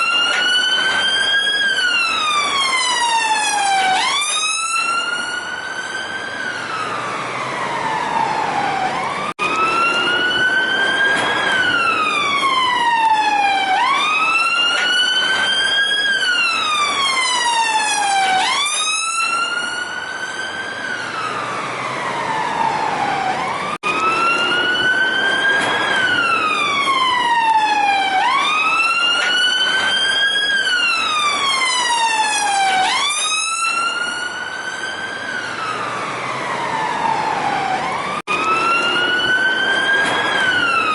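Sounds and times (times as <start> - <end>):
police siren wailing: 0.0 - 40.9.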